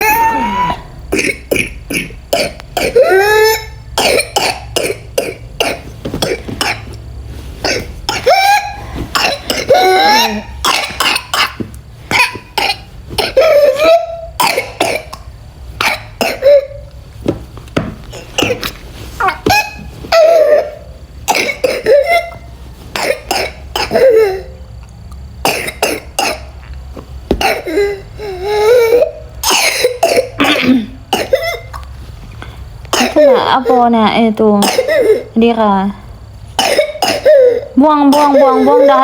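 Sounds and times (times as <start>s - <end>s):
child coughing: 0.8s - 7.0s, 7.6s - 16.8s, 18.1s - 24.6s, 25.4s - 26.6s, 27.3s - 31.8s, 32.9s - 33.8s, 34.6s - 35.4s, 36.6s - 39.0s.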